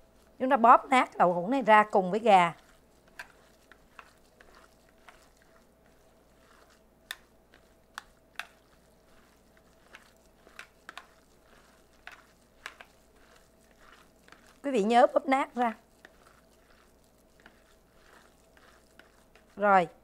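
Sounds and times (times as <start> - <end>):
wet squishing: 0.0 - 20.0.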